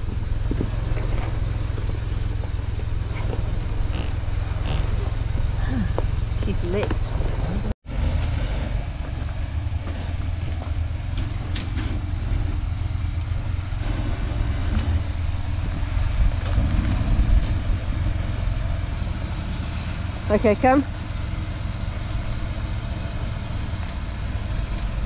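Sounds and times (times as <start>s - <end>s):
engine rumbling at low speed: 0.0s - 25.0s.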